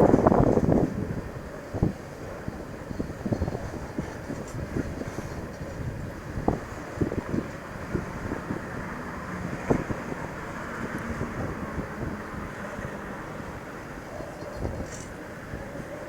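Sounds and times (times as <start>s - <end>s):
train rumbling along track: 0.0s - 16.0s
wind buffeting microphone: 0.0s - 16.0s.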